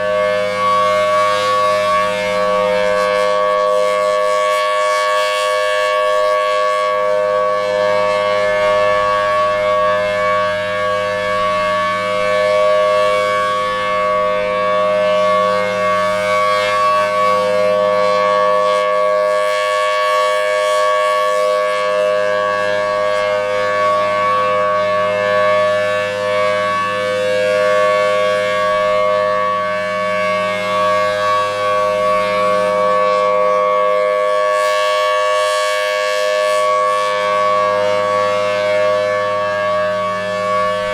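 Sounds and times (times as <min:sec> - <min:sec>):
warning siren dual-tone chord: 0:00.0 - 0:40.9.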